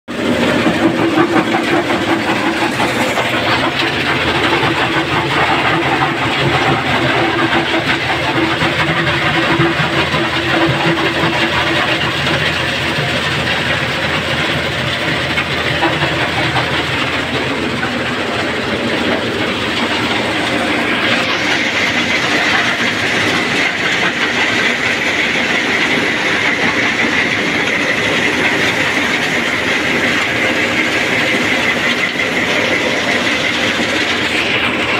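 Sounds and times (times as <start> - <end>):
high machine whine: 0.1 - 34.9
machinery rattling and clattering: 0.1 - 34.9
steady machine hum: 0.1 - 34.9.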